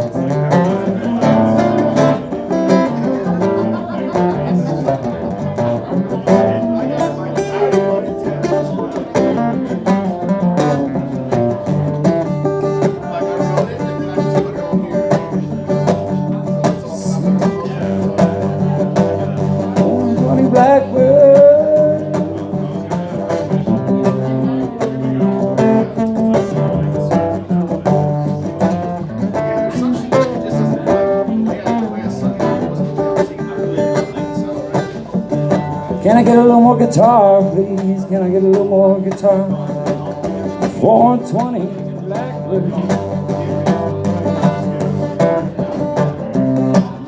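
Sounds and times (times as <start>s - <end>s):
acoustic guitar strumming blues: 0.0s - 47.0s.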